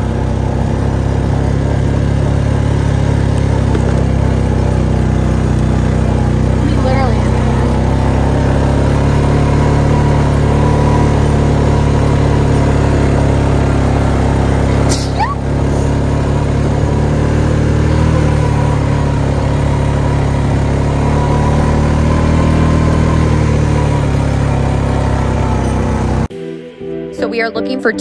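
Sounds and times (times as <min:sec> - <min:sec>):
atv engine running: 0:00.0 - 0:26.3.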